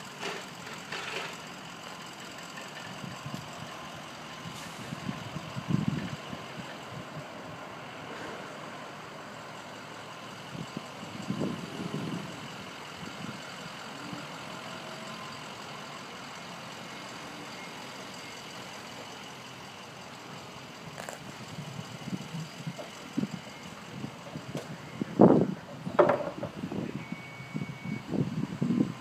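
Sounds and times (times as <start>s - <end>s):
distant heavy machinery engine: 0.0s - 29.0s.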